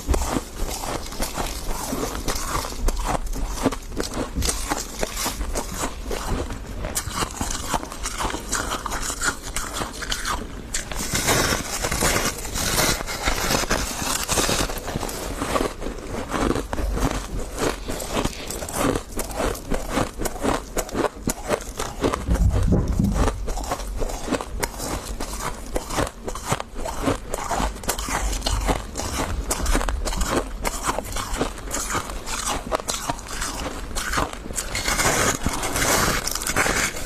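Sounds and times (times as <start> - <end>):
chewing crunchy ice: 0.0 - 37.0.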